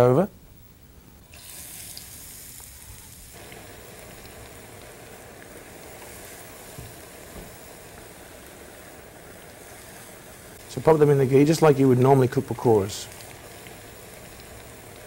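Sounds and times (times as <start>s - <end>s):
hot oil sizzling in a wok: 1.3s - 15.0s.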